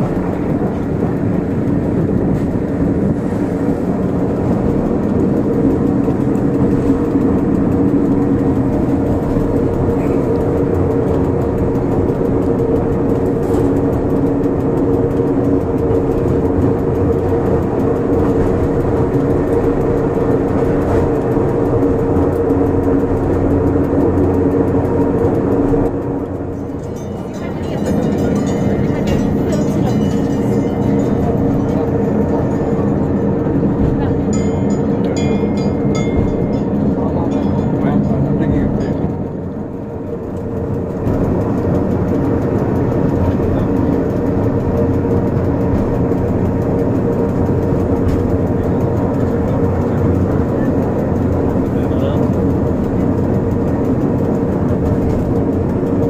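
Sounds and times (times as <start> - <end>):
railcar running drone: 0.0 - 56.0.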